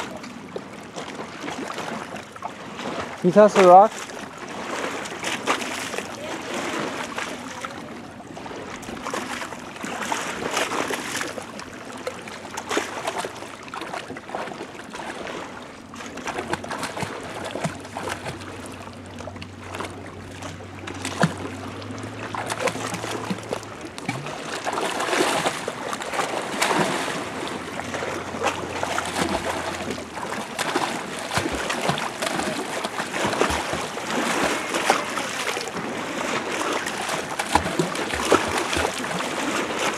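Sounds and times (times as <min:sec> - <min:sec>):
water splashing and sloshing: 0:00.0 - 0:39.9.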